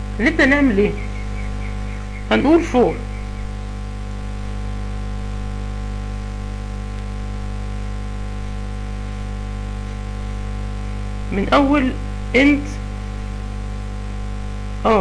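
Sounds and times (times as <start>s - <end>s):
electrical mains hum with hiss: 0.0s - 15.0s.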